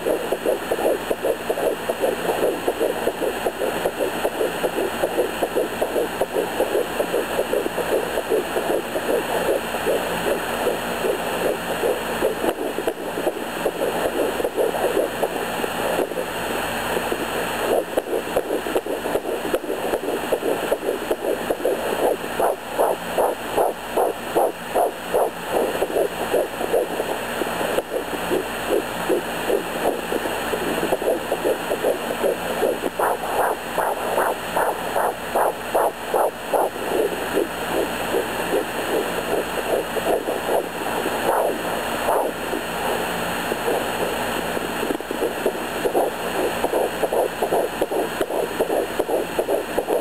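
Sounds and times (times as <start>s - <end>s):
fetal heartbeat on doppler: 0.0s - 50.0s.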